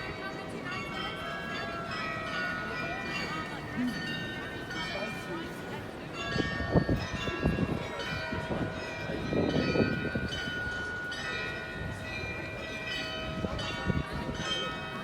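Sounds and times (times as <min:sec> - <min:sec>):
carillon bells playing a tune: 0:00.0 - 0:15.0.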